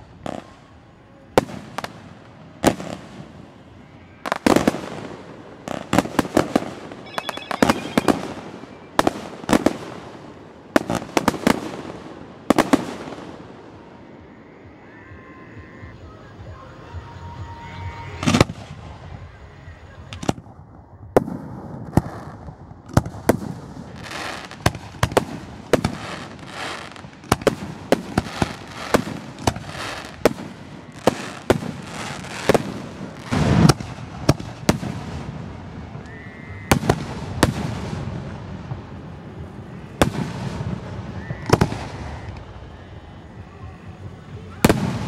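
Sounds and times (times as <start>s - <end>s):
fireworks bangs: 0.0s - 14.4s, 16.4s - 45.0s
fireworks crackling: 0.0s - 14.4s, 16.0s - 45.0s.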